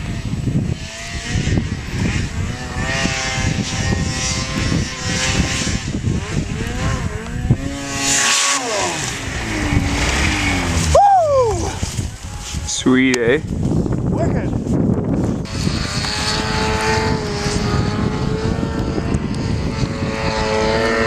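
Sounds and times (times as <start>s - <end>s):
snowmobile engine revving: 0.0s - 13.1s, 15.4s - 21.0s.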